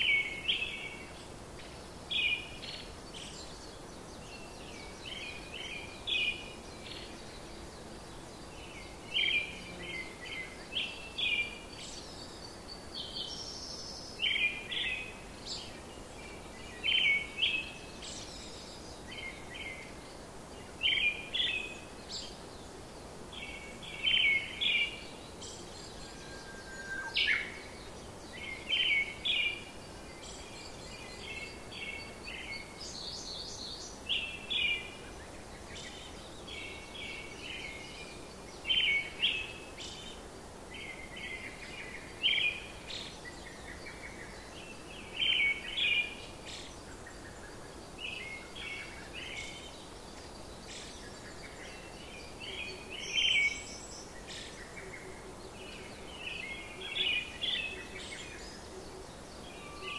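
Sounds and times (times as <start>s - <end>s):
birds chirping: 0.0s - 59.9s
steady background hiss: 0.0s - 59.9s.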